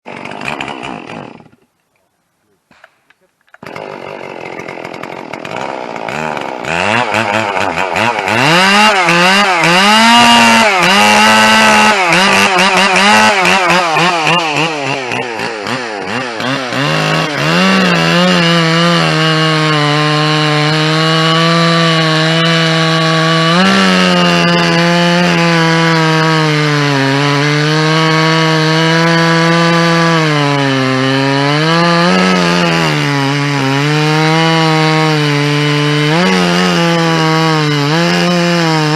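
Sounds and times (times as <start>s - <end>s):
chainsaw revving: 0.0s - 1.7s, 3.5s - 38.9s
chainsaw cutting wood: 0.0s - 1.8s, 2.7s - 38.9s.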